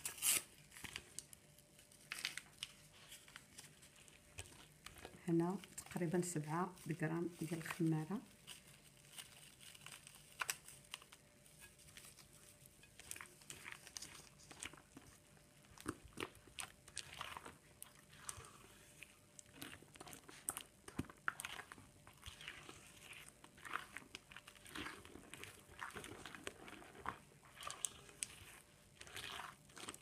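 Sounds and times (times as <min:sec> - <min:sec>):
hand squelching through wet batter: 0:00.0 - 0:30.0.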